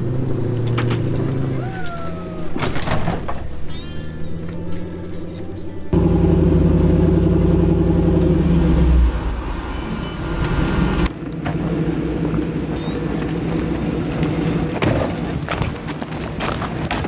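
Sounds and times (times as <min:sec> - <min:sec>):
truck engines running under load: 0:00.0 - 0:17.0.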